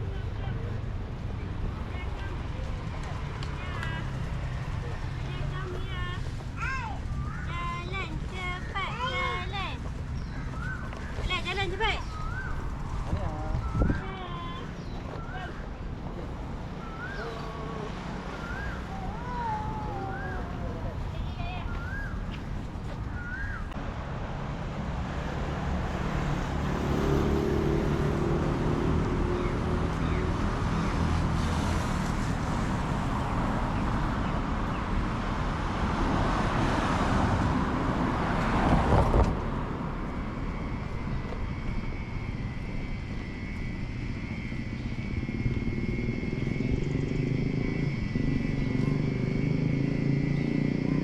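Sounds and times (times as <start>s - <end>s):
traffic engines running: 0.0s - 51.0s.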